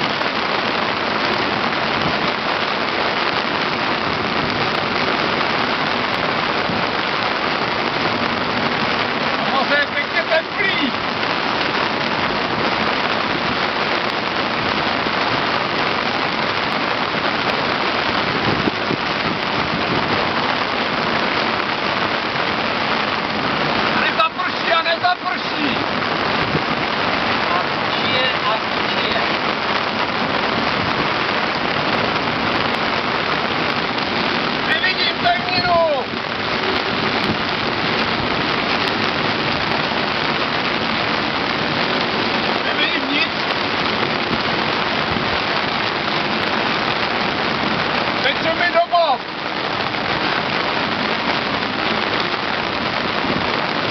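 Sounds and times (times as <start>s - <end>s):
heavy rain on a deck: 0.0s - 53.9s.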